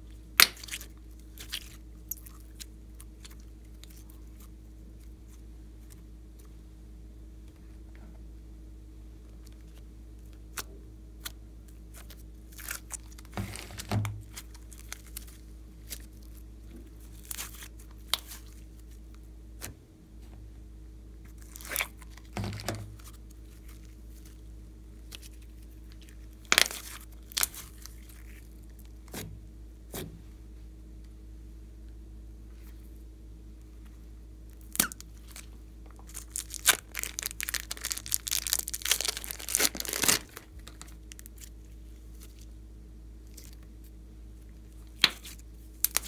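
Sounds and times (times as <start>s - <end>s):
sticky slime crackling and squishing: 0.0s - 6.6s, 9.2s - 19.8s, 21.3s - 30.1s, 33.7s - 42.6s, 43.2s - 46.0s.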